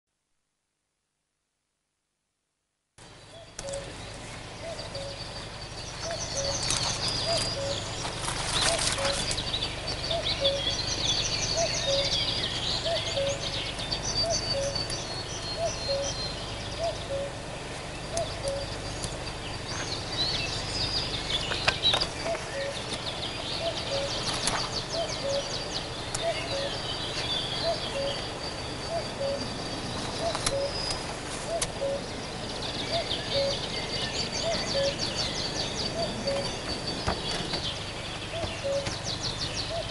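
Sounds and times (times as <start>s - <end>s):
songbirds chirping and trilling: 3.0s - 39.9s
low bird call: 3.2s - 39.9s.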